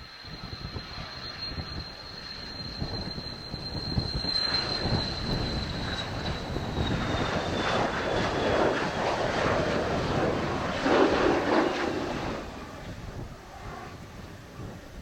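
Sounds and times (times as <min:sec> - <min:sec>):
jet engine roar with turbine whine: 0:00.0 - 0:15.0.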